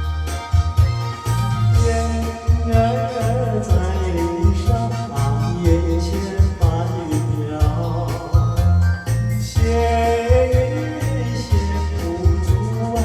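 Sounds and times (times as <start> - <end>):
karaoke backing track with bass beat: 0.0 - 13.0
person singing pop melody: 0.0 - 13.0.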